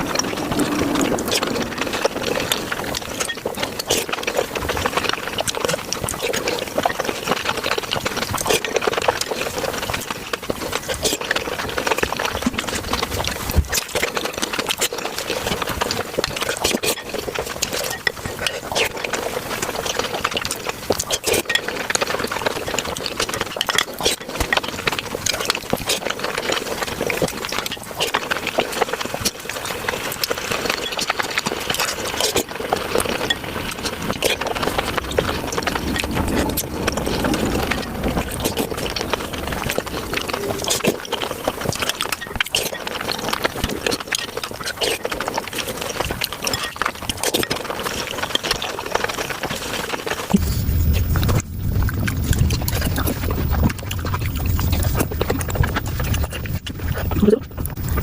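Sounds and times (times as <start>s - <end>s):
rapid sped-up chewing clatter: 0.0s - 58.0s.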